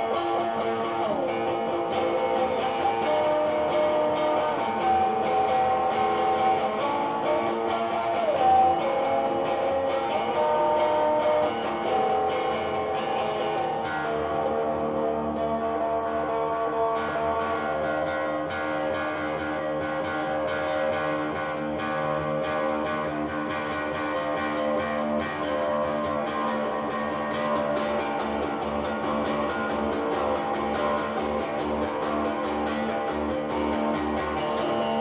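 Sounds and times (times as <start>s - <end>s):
electric guitar notes ringing: 0.0s - 35.0s.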